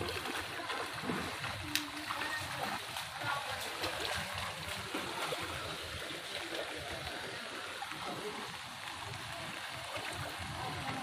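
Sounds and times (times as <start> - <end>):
floodwater running and splashing: 0.0 - 11.0.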